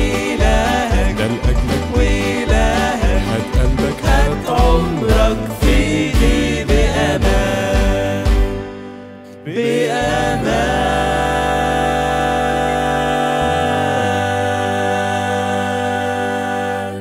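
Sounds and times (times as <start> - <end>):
bass: 0.0 - 9.0, 9.9 - 17.0
keyboard: 0.0 - 17.0
vocal group singing worship song: 0.0 - 17.0.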